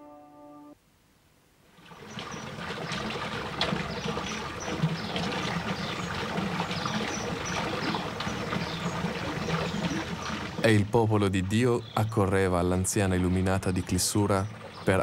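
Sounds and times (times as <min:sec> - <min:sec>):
water trickling: 0:01.7 - 0:15.0.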